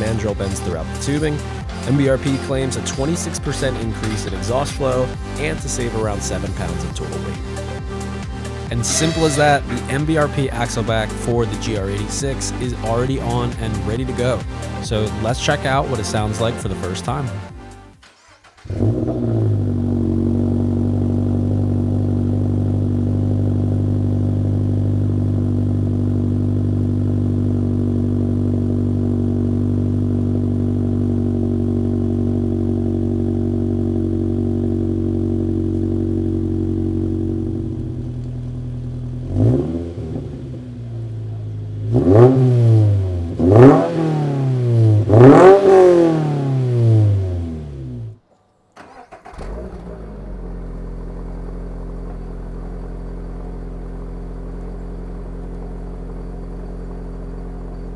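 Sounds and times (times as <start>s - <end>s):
car engine idling: 0.0s - 57.9s
engine revving in throttle blips: 0.0s - 57.9s.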